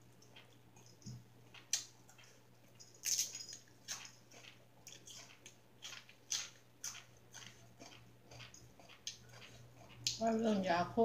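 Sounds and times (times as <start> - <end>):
person chewing with wet smacks: 0.0 - 10.6.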